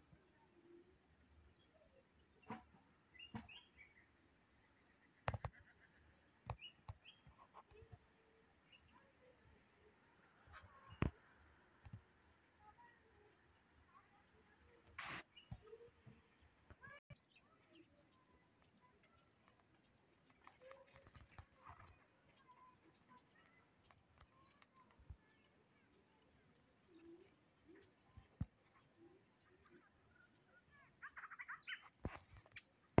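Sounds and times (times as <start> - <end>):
small bird chirping: 1.5 - 9.5, 13.9 - 33.0.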